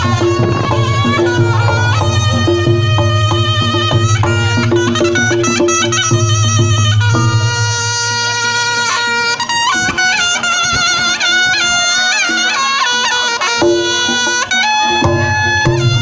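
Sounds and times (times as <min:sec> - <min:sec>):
drum strokes: 0:00.0 - 0:16.0
repeated percussion notes: 0:00.0 - 0:16.0
shawm playing ornamented melody: 0:00.0 - 0:16.0.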